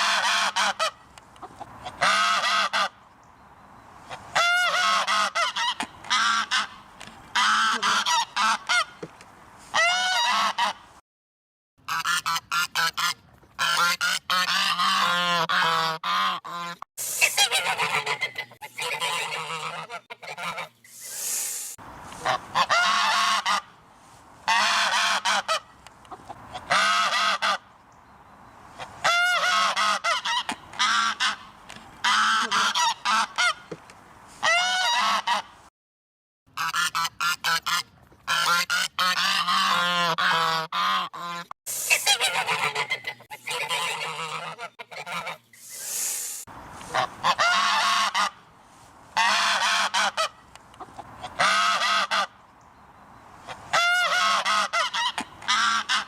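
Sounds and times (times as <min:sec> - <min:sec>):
geese honking: 0:00.0 - 0:03.0, 0:04.1 - 0:09.0, 0:09.7 - 0:10.8, 0:11.9 - 0:20.8, 0:22.1 - 0:23.8, 0:24.4 - 0:27.7, 0:28.8 - 0:33.7, 0:34.4 - 0:35.5, 0:36.6 - 0:45.9, 0:46.8 - 0:48.5, 0:49.2 - 0:52.4, 0:53.5 - 0:56.0.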